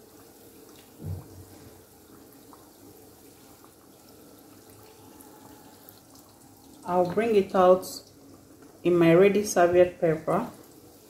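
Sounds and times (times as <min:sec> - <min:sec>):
oil sizzling and bubbling: 0:00.0 - 0:11.0.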